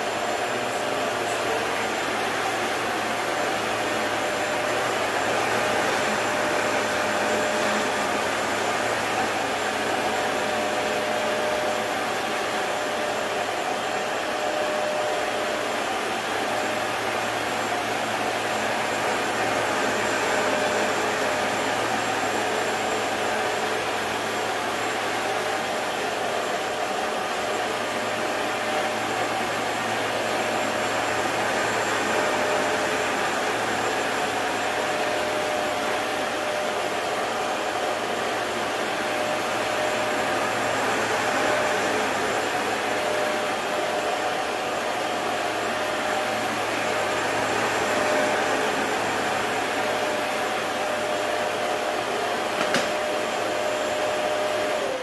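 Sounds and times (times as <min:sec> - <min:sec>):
carpet cleaner motor droning: 0:00.0 - 0:55.0.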